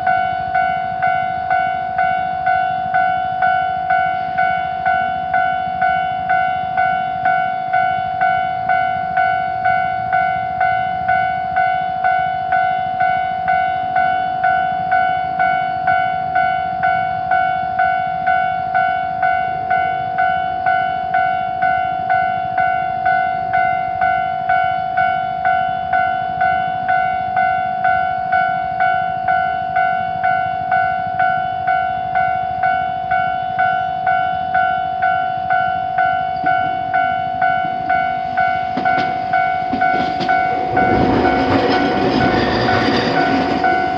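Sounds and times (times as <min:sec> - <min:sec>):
level crossing warning bell: 0:00.0 - 0:43.9.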